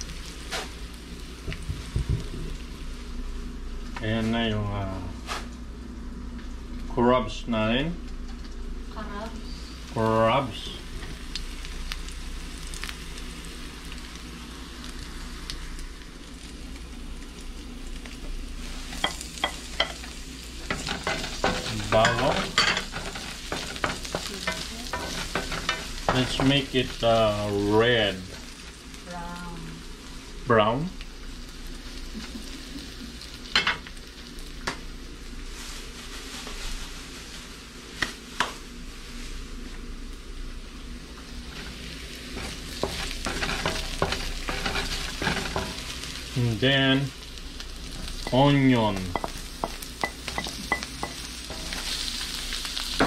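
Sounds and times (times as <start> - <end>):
ginger sizzling in hot oil: 0.0 - 53.0.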